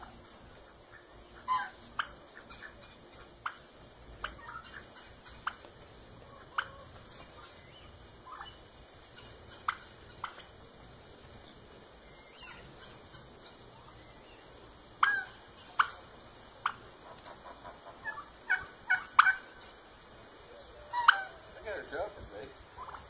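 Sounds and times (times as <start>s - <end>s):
turkeys calling: 0.0s - 23.0s.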